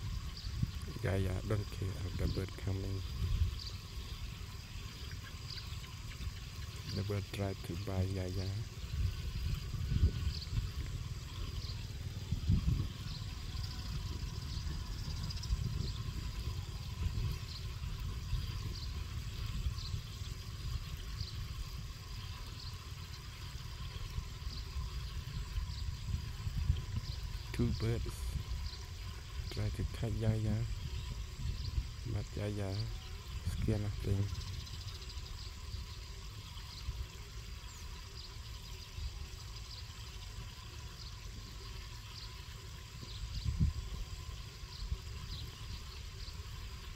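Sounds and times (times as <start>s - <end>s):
wind buffeting microphone: 0.0s - 36.0s, 42.8s - 46.9s
low uneven rumble: 0.0s - 46.9s
steady hiss: 0.0s - 46.9s.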